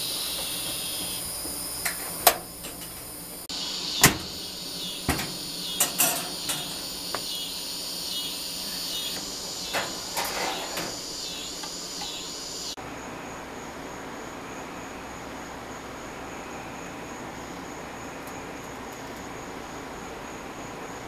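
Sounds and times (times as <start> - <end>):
steady high hiss: 0.0 - 18.5.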